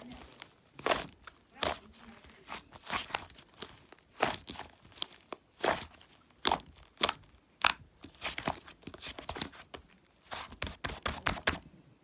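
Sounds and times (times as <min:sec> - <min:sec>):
slime squished by hand: 0:00.0 - 0:11.6.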